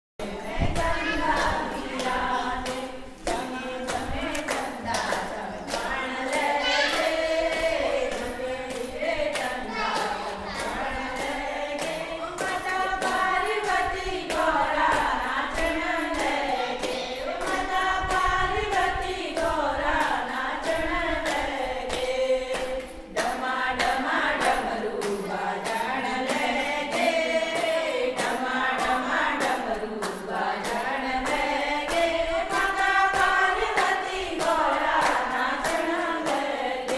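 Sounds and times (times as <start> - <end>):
group singing devotional song: 0.2 - 36.9
hand clapping: 0.8 - 18.8, 19.4 - 36.9.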